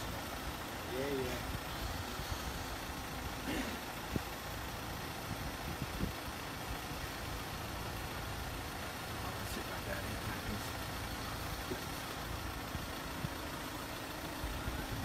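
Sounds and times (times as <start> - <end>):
idling vehicle engines: 0.0 - 15.0.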